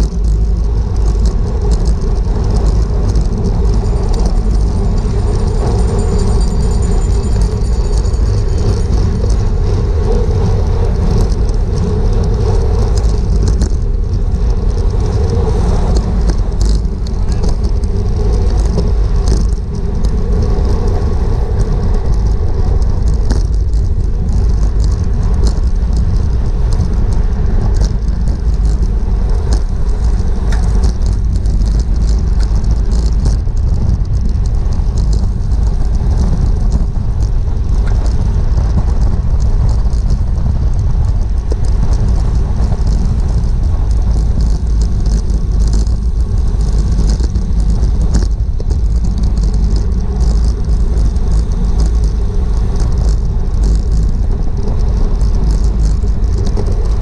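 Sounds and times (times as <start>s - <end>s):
clicks and ticks from bike: 0.0s - 57.0s
wind buffeting microphone: 0.0s - 57.0s.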